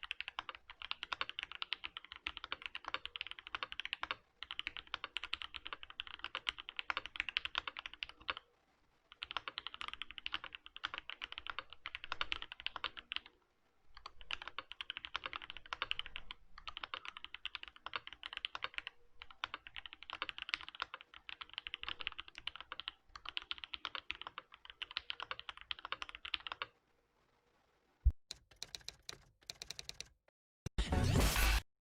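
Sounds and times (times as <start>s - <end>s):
fast typing on mechanical keyboard: 0.0s - 8.4s, 9.1s - 13.3s, 14.0s - 26.8s, 28.3s - 30.2s.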